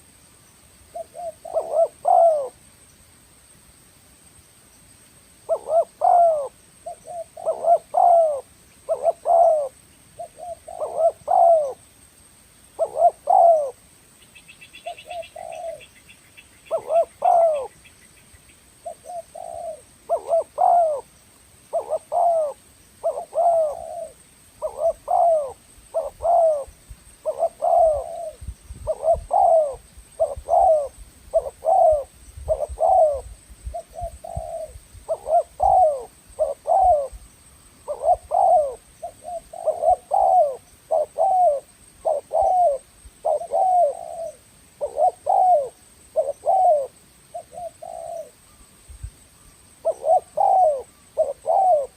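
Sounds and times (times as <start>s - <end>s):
dove cooing: 0.9s - 2.6s, 5.5s - 11.8s, 12.8s - 13.8s, 14.7s - 16.0s, 16.6s - 17.9s, 18.8s - 21.1s, 21.7s - 48.6s, 49.8s - 51.9s.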